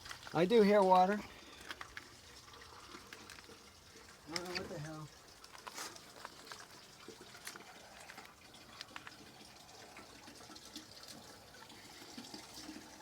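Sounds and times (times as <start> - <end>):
faint water trickling through plumbing: 0.0 - 13.0
small clicks or drips: 0.0 - 13.0.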